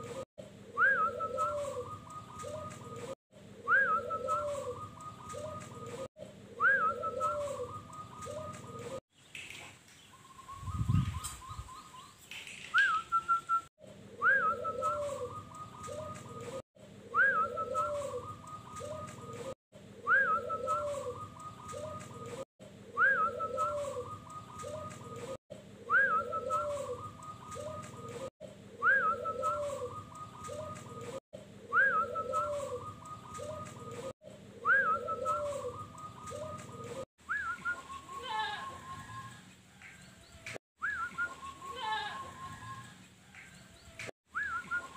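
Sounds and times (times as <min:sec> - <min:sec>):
dove cooing song: 0:00.0 - 0:09.0, 0:10.1 - 0:44.9.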